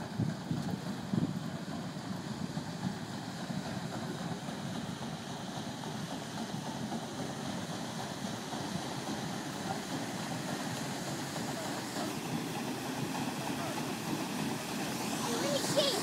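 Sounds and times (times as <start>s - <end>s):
paddle wheels churning water: 0.0s - 16.0s.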